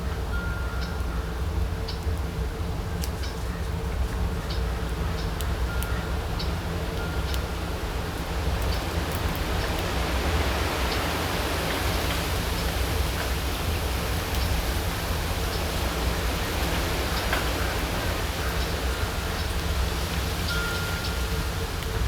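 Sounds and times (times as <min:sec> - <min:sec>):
rushing outdoor noise with rumble: 0:00.0 - 0:22.0.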